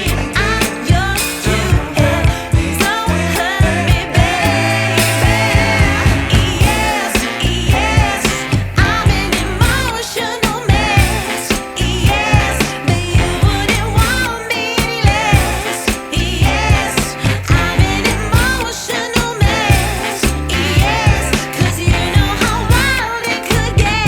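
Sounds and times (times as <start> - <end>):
person singing pop song: 0.0 - 24.0
steady drum beat: 0.0 - 24.0.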